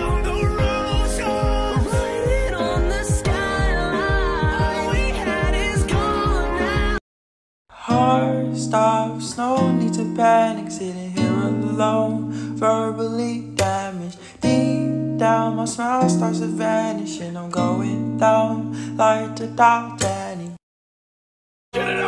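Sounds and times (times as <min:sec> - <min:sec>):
guitar music: 0:00.0 - 0:07.0, 0:07.9 - 0:20.4.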